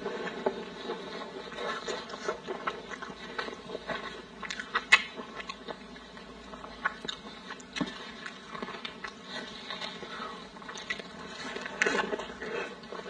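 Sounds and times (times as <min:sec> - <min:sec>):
close chewing with wet mouth clicks: 0:00.9 - 0:13.0.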